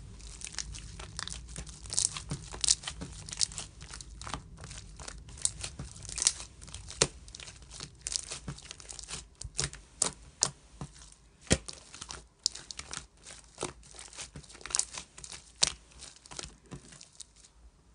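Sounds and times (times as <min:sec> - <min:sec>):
slime popping and crackling: 0:00.0 - 0:17.5.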